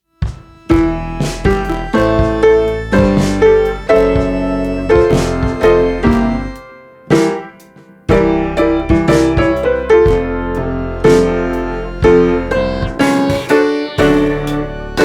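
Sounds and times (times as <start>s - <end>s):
piano chords: 0.2s - 15.0s
steady low bass: 0.7s - 6.6s, 8.1s - 13.3s, 14.0s - 15.0s.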